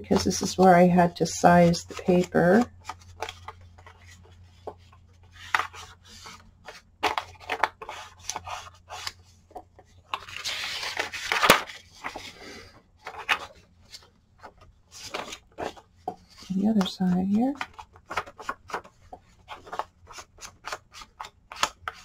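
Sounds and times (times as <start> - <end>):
paper rustling: 0.1 - 22.0.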